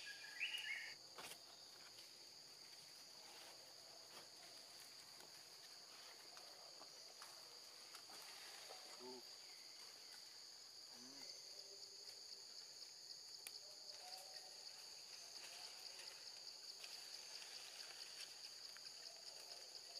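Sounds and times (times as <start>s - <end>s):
high-pitched insect chorus: 0.0s - 19.9s.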